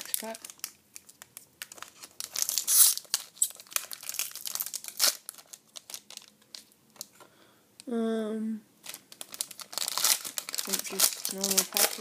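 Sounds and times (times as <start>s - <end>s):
wrapper crinkling and tearing: 0.0s - 7.1s, 8.8s - 12.0s.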